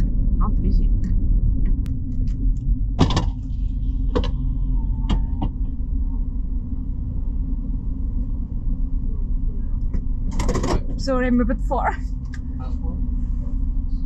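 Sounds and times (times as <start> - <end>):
car rolling rumble: 0.0 - 14.0.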